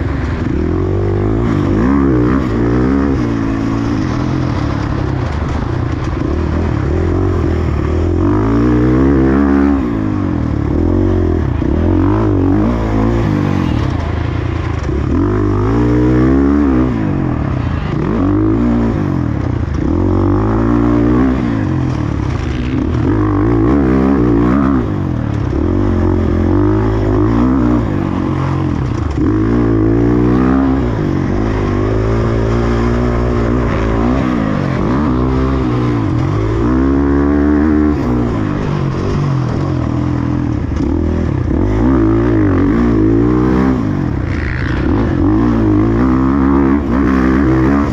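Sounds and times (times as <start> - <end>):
motocross bike engine revving: 0.0 - 47.9.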